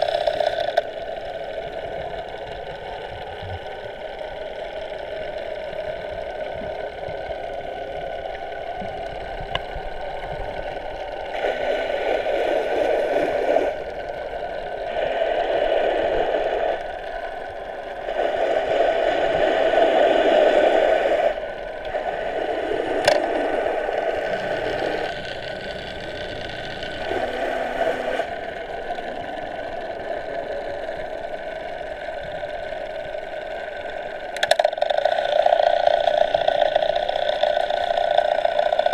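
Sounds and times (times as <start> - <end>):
underwater motor hum and whine: 0.0 - 38.9.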